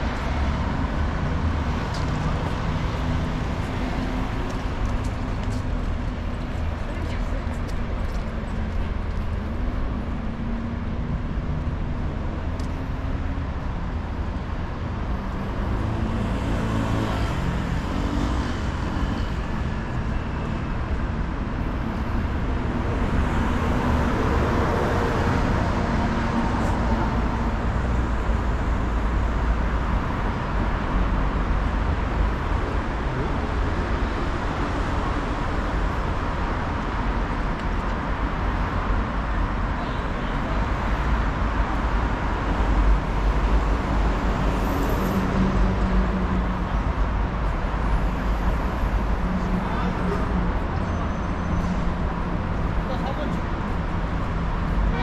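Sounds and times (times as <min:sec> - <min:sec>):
road traffic rumble: 0:00.0 - 0:55.0
voices of passers-by: 0:00.0 - 0:55.0.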